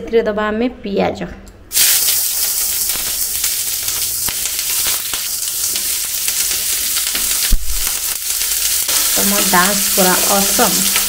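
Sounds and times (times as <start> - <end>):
onions sizzling in oil: 1.7 - 11.0.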